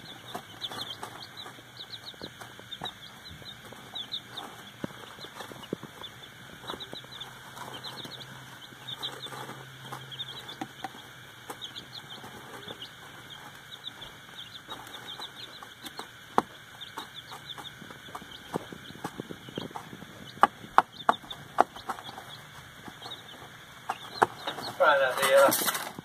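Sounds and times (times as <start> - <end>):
chicks peeping: 0.0 - 26.0
taps and rustles in wood shavings: 0.0 - 26.0.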